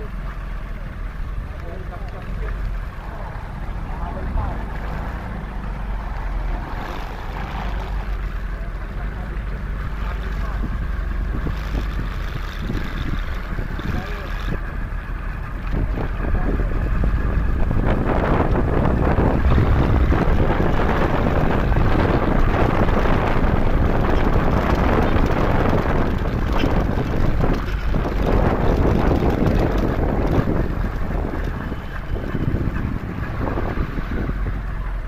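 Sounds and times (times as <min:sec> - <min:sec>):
engine and road noise: 0:00.0 - 0:35.0
wind rushing over microphone: 0:02.9 - 0:35.0.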